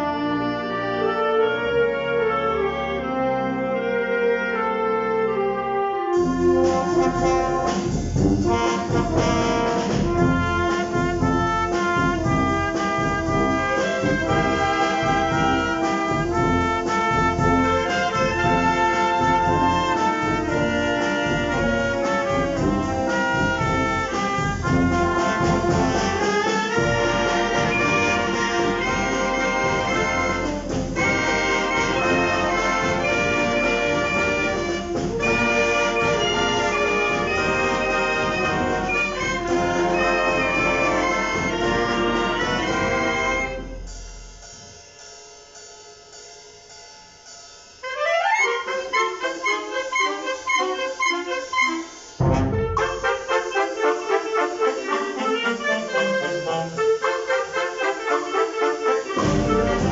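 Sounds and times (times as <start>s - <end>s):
wind band playing film music: 0.0s - 44.7s, 47.7s - 59.9s
sharp percussion accents: 6.2s - 58.0s, 58.8s - 59.9s.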